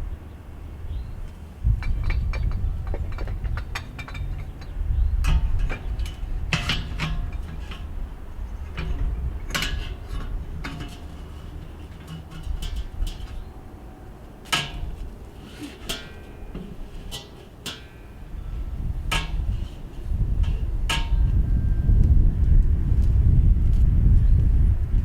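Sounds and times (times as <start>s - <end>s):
metal grill parts clanking: 1.3s - 21.8s.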